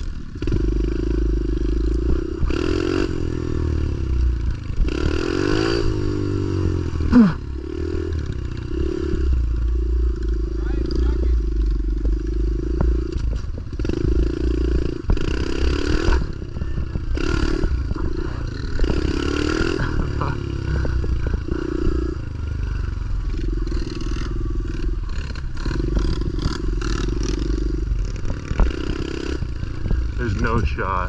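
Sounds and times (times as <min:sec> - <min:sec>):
pit bike engine revving: 0:00.0 - 0:31.0.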